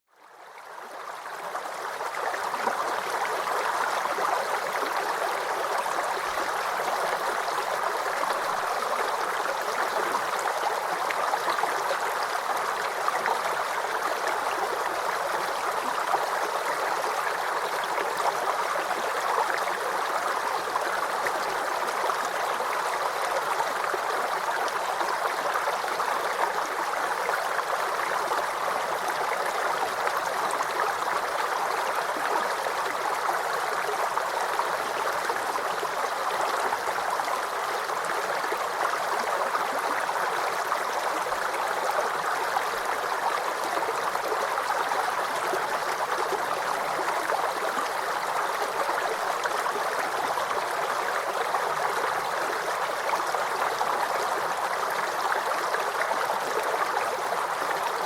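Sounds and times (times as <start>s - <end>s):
creek babbling over stones: 0.1s - 58.0s.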